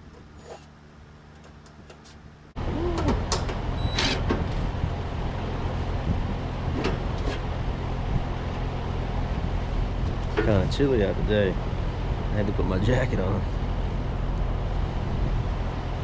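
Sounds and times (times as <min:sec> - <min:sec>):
heat pump fan and hum: 0:00.0 - 0:16.0.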